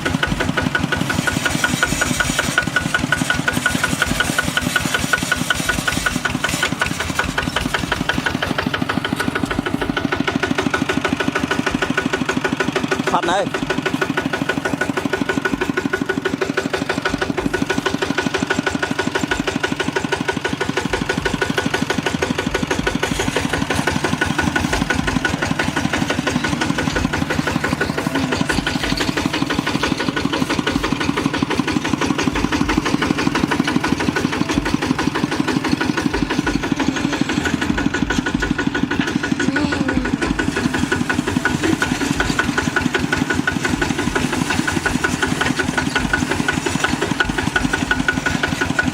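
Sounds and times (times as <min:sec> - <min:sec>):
diesel engine knocking steadily: 0:00.0 - 0:48.9.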